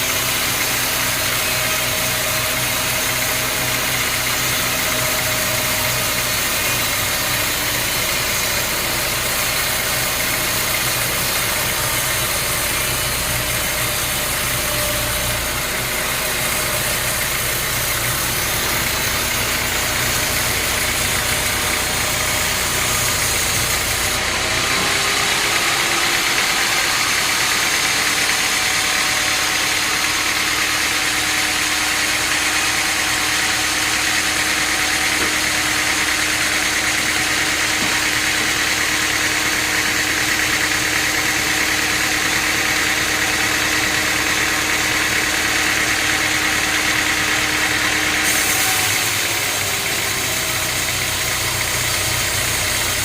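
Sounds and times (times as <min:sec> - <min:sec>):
steady machine hum: 0:00.0 - 0:49.4
sawmill machinery droning: 0:00.0 - 0:53.0.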